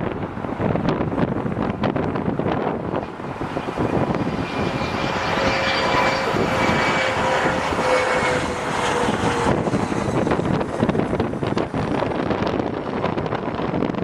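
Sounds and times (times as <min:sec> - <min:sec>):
jet airliner engine roar: 0:00.0 - 0:14.0.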